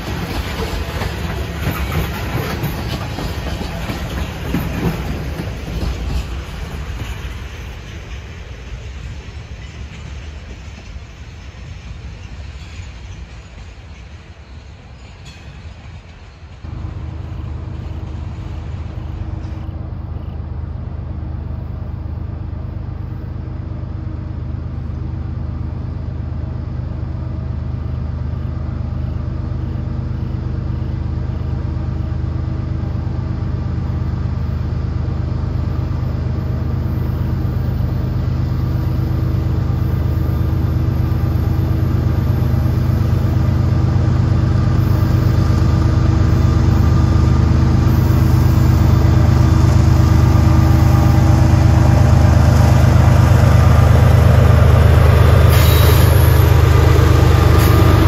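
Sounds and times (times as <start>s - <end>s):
diesel locomotive engine humming: 0.0s - 58.0s.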